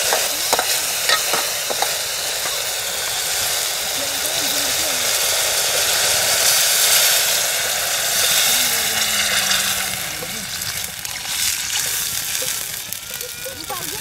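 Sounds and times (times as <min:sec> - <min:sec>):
hissing and sizzling pot: 0:00.0 - 0:14.0
water pouring into pot: 0:00.0 - 0:14.0.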